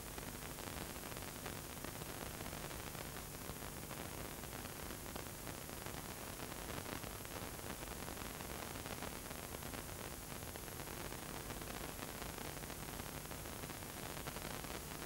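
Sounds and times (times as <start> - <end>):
tape static hiss: 0.0 - 15.0.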